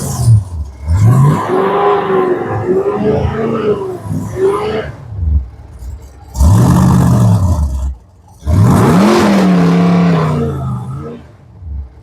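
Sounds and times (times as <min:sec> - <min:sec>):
stock car engine revving: 0:00.0 - 0:12.0.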